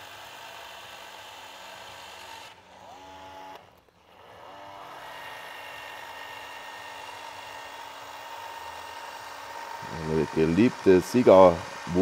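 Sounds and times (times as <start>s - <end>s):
caulking gun motor whining: 0.0s - 12.0s.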